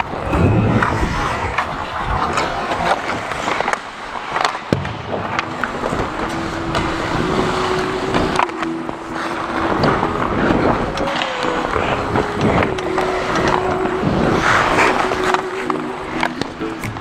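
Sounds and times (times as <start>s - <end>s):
skates gliding and scraping on ice: 0.0s - 17.0s.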